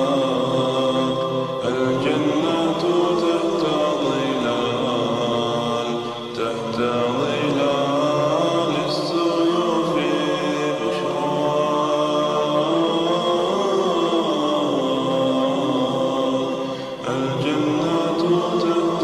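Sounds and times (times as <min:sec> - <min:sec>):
voices chanting slow melody: 0:00.0 - 0:19.0.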